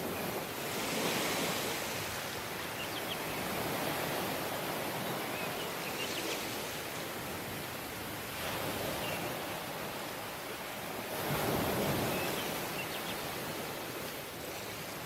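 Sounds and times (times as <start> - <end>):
waves washing onto beach: 0.0 - 15.0.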